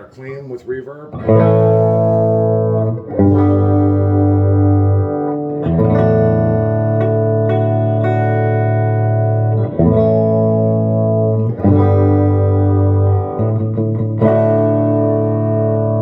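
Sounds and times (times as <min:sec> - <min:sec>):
electric guitar strummed chords: 0:01.1 - 0:16.0.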